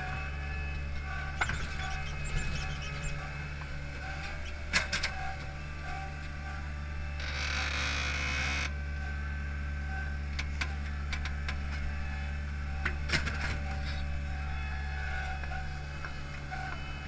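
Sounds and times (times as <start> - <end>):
machine engine running: 0.0 - 17.0.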